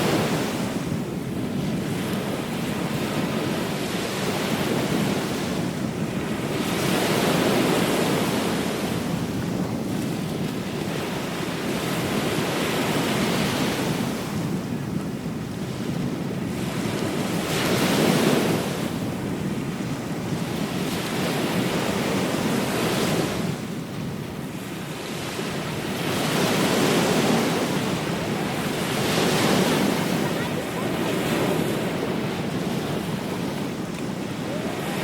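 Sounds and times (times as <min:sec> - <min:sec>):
ocean surf breaking on beach: 0:00.0 - 0:35.0
wind noise on microphone: 0:00.0 - 0:35.0.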